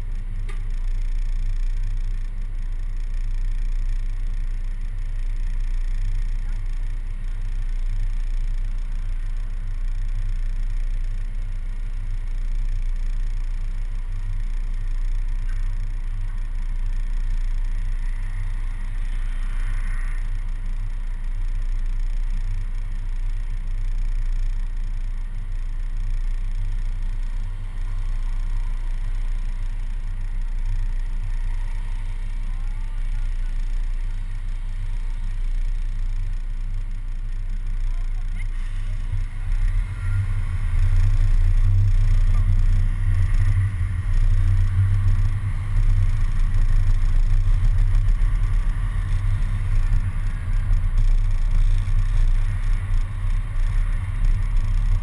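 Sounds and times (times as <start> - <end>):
bus engine idling: 0.0 - 55.0
passing traffic: 0.0 - 55.0.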